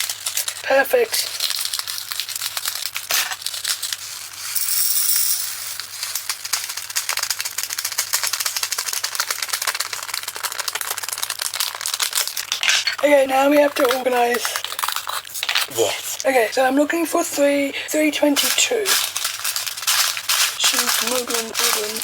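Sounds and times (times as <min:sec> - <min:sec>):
tiny beads rattling into container: 0:01.2 - 0:15.7, 0:18.4 - 0:22.0.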